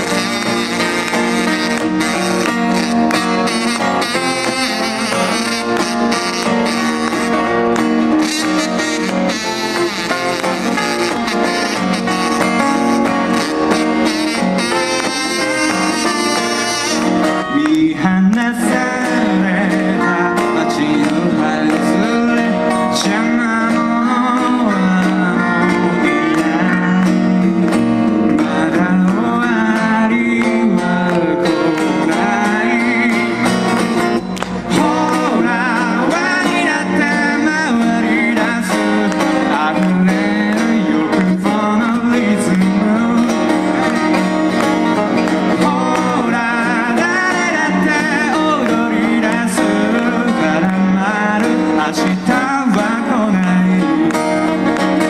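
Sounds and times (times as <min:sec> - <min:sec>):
acoustic guitars strummed: 0:00.0 - 0:55.0
man singing: 0:00.0 - 0:55.0.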